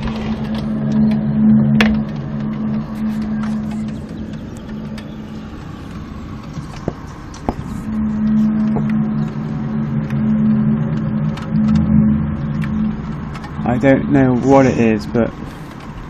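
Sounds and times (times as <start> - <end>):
low droning hum: 0.0 - 16.0.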